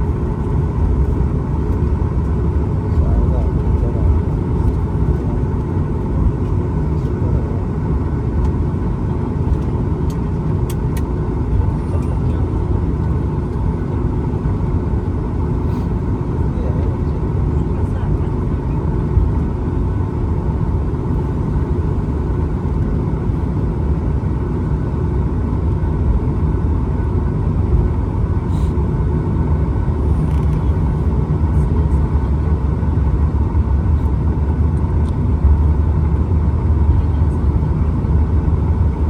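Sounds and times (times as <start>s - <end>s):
constant hum: 0.0s - 39.0s
jet engine rumble in cabin: 0.0s - 39.0s.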